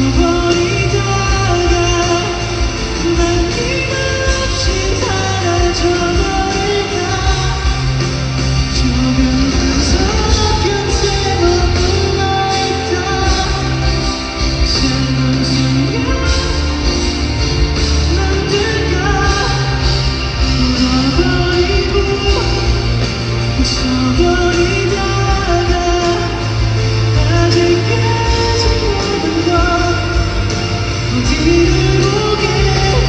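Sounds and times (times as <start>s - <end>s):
live pop-rock band with singing: 0.0s - 33.0s.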